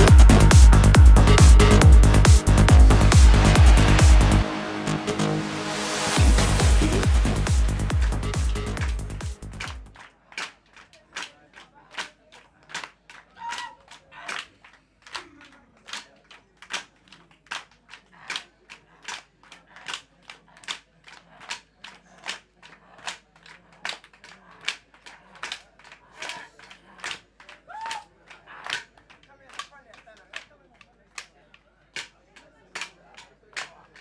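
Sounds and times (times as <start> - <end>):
group clapping rhythmically: 0.0 - 34.0.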